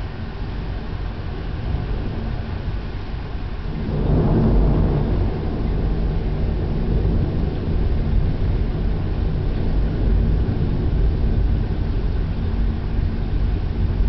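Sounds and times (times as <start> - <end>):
rain hiss: 0.0 - 14.0
thunder rumble: 0.0 - 14.0.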